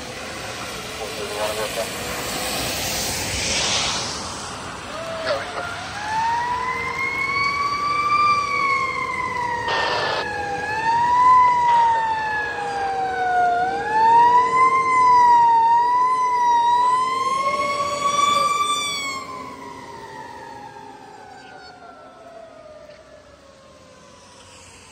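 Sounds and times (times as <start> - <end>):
fire engine siren wailing: 0.0 - 24.9.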